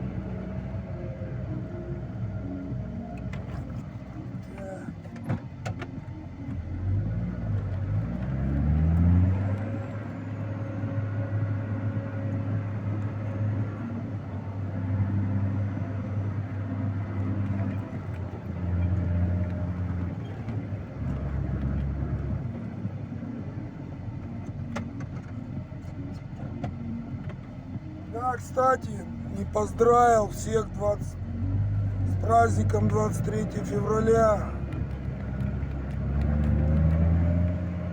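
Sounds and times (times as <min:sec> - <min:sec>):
vehicle engine revving: 0:00.0 - 0:37.9.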